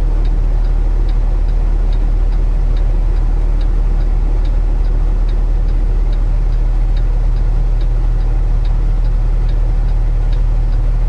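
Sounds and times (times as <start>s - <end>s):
light even ticking: 0.0s - 11.0s
truck diesel engine humming: 0.0s - 11.0s.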